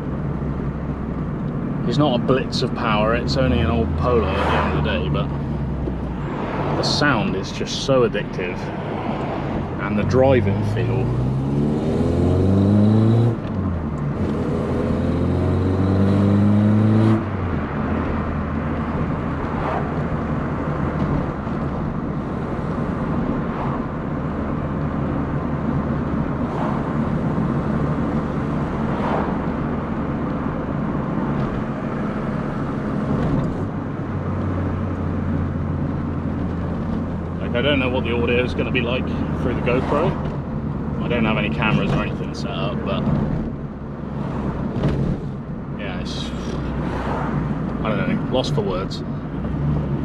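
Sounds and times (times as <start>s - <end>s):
car engine accelerating: 0.0s - 50.0s
road and tyre noise: 0.0s - 50.0s.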